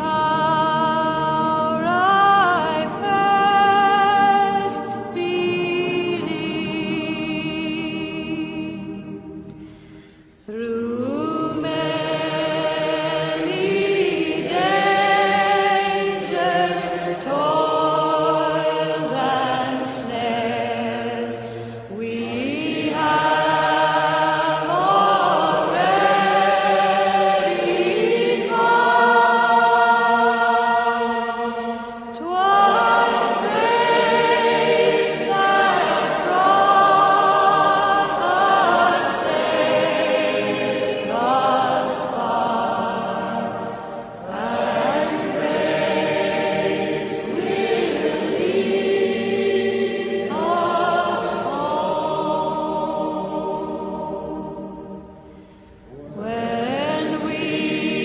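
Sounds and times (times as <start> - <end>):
choir singing held notes: 10.8 - 58.0.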